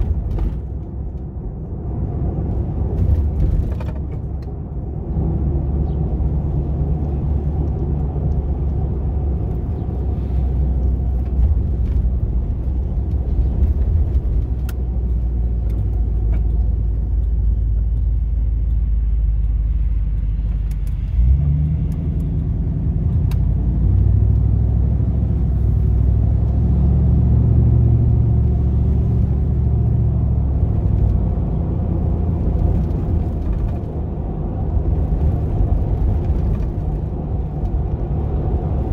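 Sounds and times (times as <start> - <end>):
van engine running while driving: 0.0 - 38.9.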